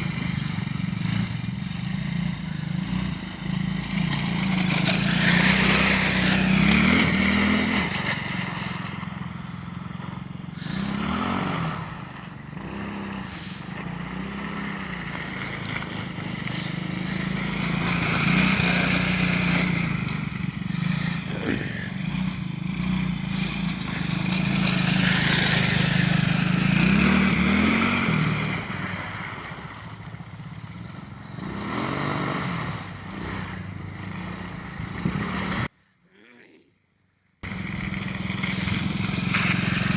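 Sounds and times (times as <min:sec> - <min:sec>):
quad engine revving: 0:00.0 - 0:35.7, 0:37.4 - 0:39.9.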